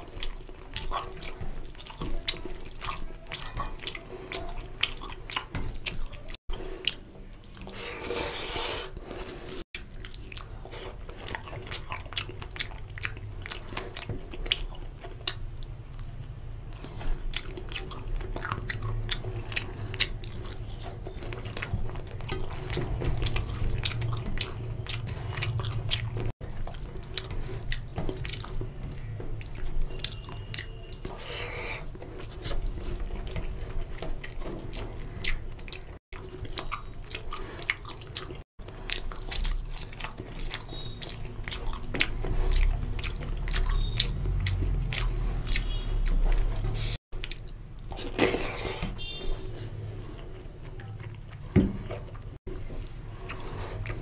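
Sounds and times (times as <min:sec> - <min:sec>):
fingers squelching in food: 0:00.0 - 0:51.3
mouth chewing and smacking: 0:00.0 - 0:54.0.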